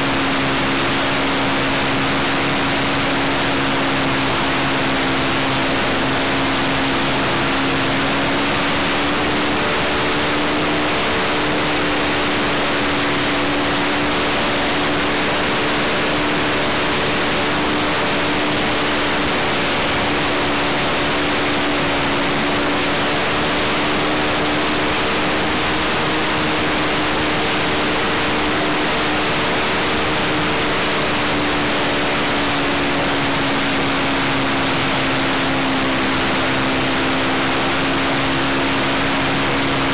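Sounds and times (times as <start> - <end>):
model aircraft engine running: 0.0 - 39.9
rush of wind: 0.0 - 39.9.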